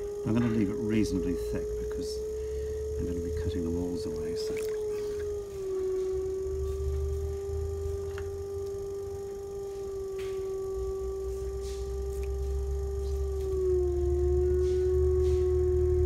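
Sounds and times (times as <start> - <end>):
potter's wheel motor whining: 0.0 - 16.0.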